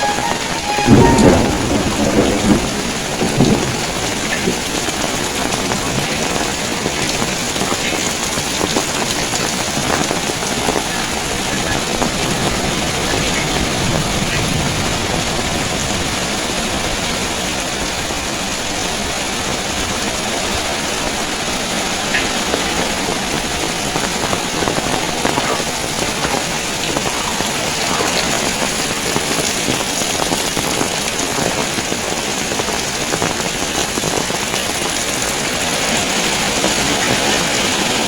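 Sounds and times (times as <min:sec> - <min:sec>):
heavy rain pouring: 0:00.0 - 0:38.0
wind rumbling on microphone: 0:00.0 - 0:38.0.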